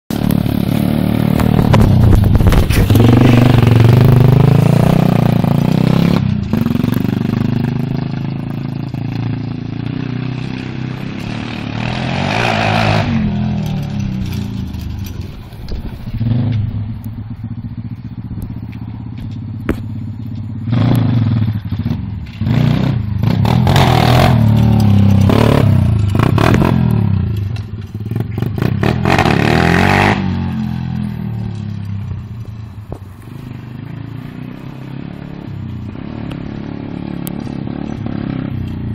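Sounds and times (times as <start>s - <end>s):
pit bike engine revving: 0.1s - 15.4s, 20.6s - 31.8s, 33.2s - 38.9s.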